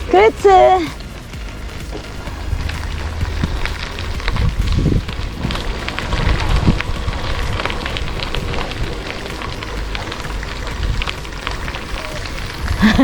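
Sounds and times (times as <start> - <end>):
crackle: 0.0 - 13.0
wind buffeting microphone: 0.0 - 13.0.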